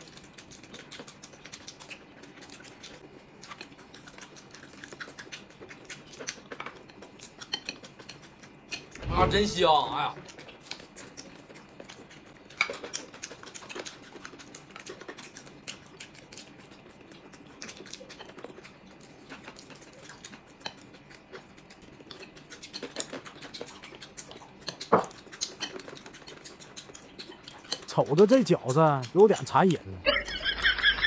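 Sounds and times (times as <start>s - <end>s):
wet chewing: 0.0s - 30.2s.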